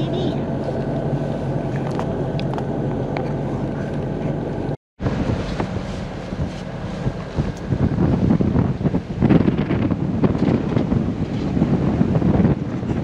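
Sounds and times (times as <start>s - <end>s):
boat diesel engine running: 0.0s - 13.0s
wind buffeting microphone: 0.0s - 13.0s.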